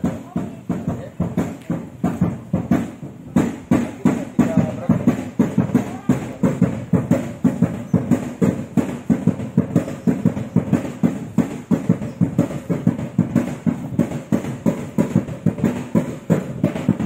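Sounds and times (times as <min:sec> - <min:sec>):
fast percussion beat: 0:00.0 - 0:17.0.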